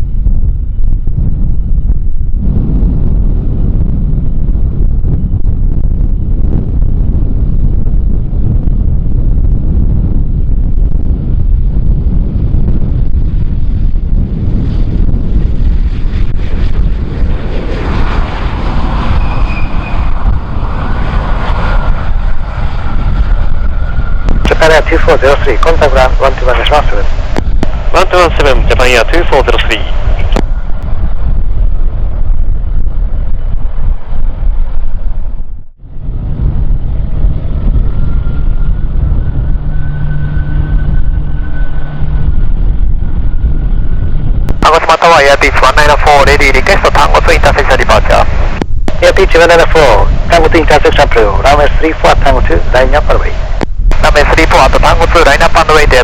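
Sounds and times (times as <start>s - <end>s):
faint steady whine: 0.0s - 56.0s
wind buffeting microphone: 0.0s - 56.0s
jet engines rushing: 0.1s - 56.0s.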